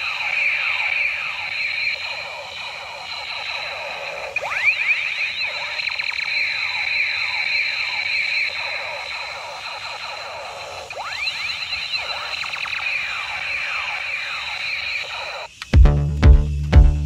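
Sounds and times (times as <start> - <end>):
toy laser gun sound effects: 0.0 - 15.8.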